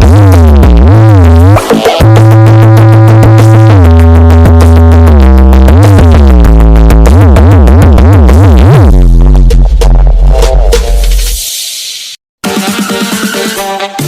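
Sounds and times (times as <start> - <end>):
deep bass and synth notes: 0.0 - 11.3
loud electronic dance music: 0.0 - 14.0.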